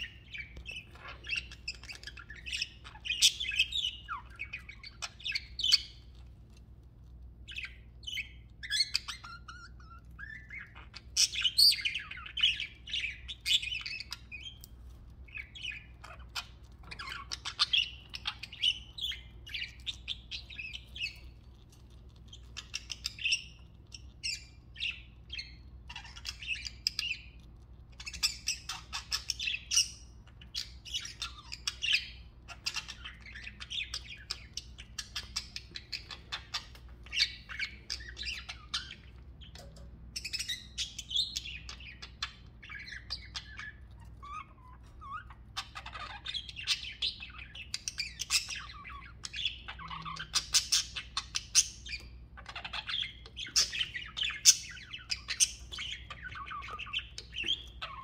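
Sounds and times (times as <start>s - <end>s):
budgerigars chirping and warbling: 0.0s - 58.0s.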